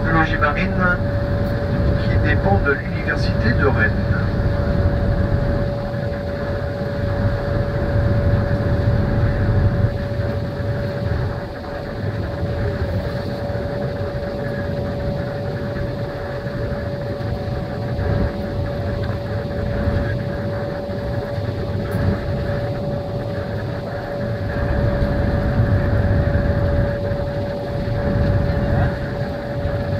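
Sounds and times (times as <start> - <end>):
boat engine whine and rumble: 0.0 - 29.9.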